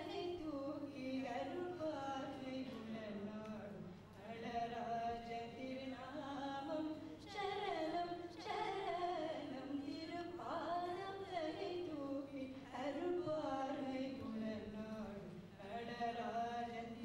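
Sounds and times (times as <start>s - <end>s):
person singing devotional song: 0.0s - 17.0s.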